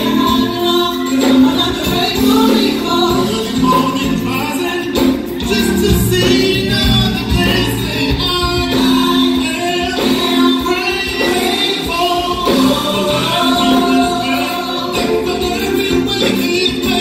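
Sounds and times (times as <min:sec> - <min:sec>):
gospel group singing: 0:00.0 - 0:17.0.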